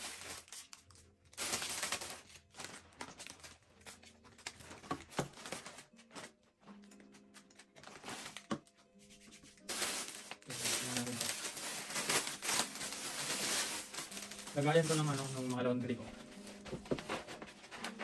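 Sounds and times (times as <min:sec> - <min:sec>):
plastic packaging crinkling and tearing: 0:00.0 - 0:08.8, 0:09.5 - 0:18.0.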